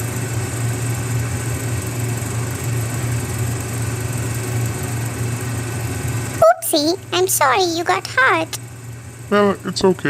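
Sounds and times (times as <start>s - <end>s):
excavator engine running: 0.0s - 9.7s.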